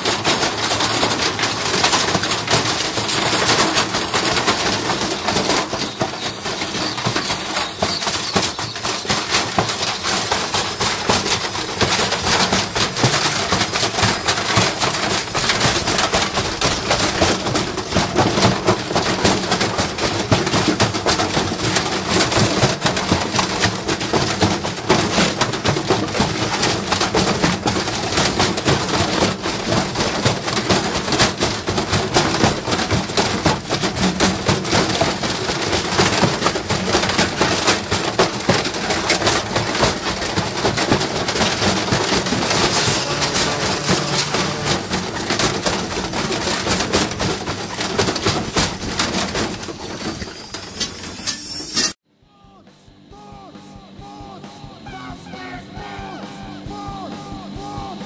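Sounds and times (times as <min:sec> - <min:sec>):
washing machine drum banging: 0:00.0 - 0:52.0.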